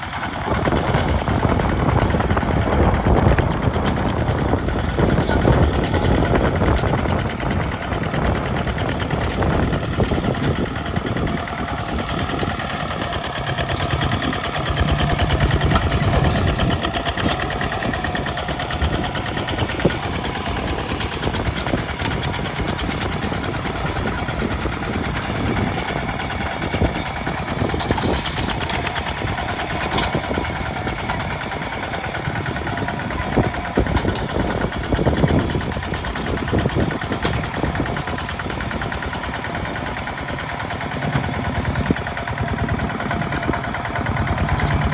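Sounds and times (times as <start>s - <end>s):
diesel tractor engine thudding: 0.0s - 44.9s.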